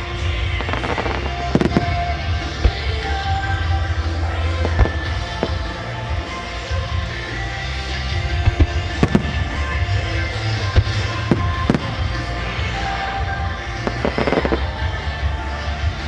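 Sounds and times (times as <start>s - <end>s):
music: 0.0s - 16.0s.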